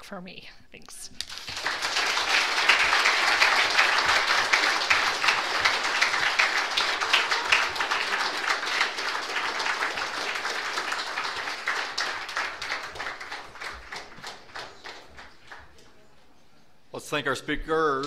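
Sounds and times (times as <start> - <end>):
audience applauding: 1.2 - 15.9.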